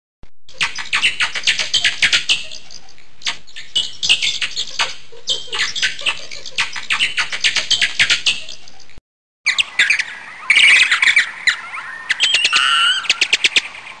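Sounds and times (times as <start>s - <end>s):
bats squeaking and chittering: 0.5s - 14.0s.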